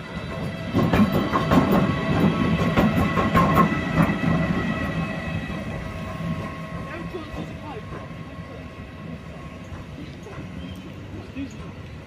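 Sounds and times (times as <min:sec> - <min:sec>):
train wheels clattering: 0:00.3 - 0:12.0.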